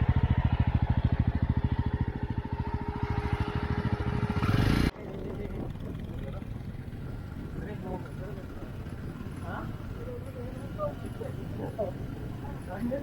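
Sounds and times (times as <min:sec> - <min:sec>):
quieter running sound: 0:00.0 - 0:12.0
motorcycle engine running: 0:00.0 - 0:13.0.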